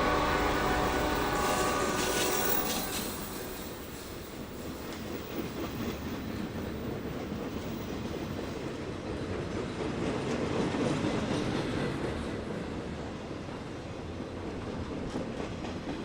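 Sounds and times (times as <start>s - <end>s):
train wheel clatter: 0.0s - 13.6s
freight train rumbling: 0.0s - 16.0s.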